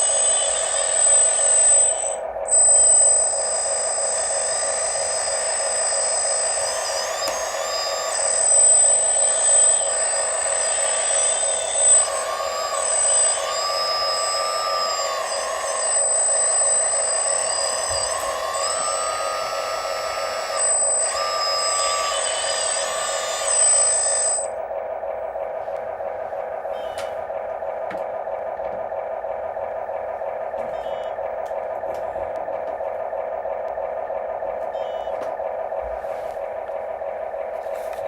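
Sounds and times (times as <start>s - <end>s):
electric motors whining: 0.0s - 38.0s
steady pump hum: 0.0s - 38.0s.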